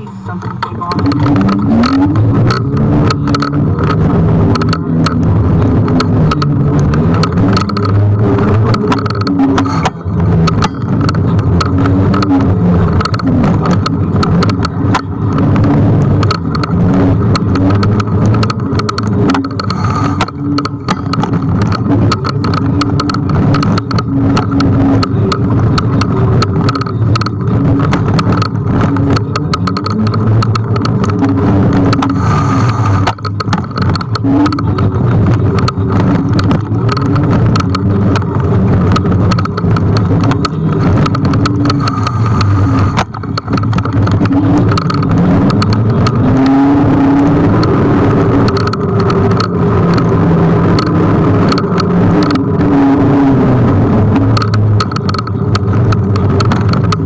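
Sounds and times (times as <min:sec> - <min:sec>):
motor hum: 0:00.0 - 0:57.0
rattling clicks and knocks: 0:00.0 - 0:57.0
road and wind rumble: 0:00.0 - 0:57.0.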